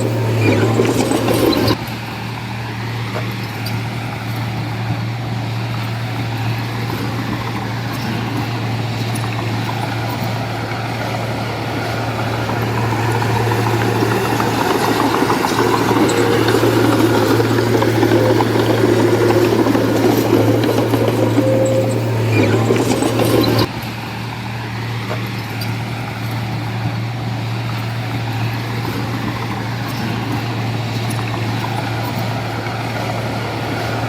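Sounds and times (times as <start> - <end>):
diesel engine humming: 0.0 - 34.0.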